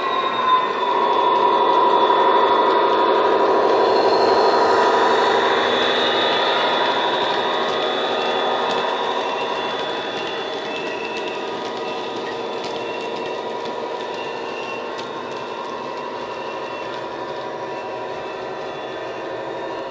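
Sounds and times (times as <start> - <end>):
wheels clicking on track: 0.0 - 19.9.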